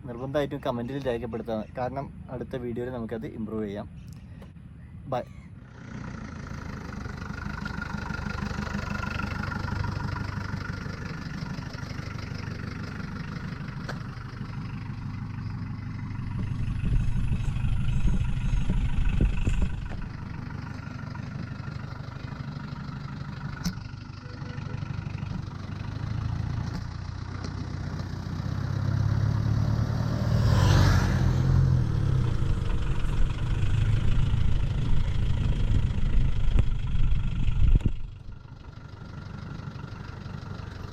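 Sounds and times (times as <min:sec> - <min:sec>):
car engine revving: 0:05.6 - 0:40.9.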